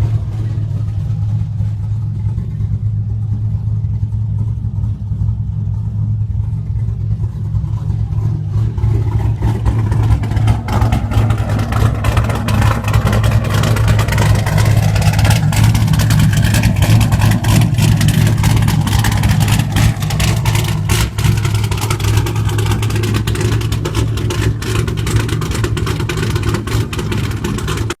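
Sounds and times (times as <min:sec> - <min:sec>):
car engine idling rough: 0:00.0 - 0:28.0.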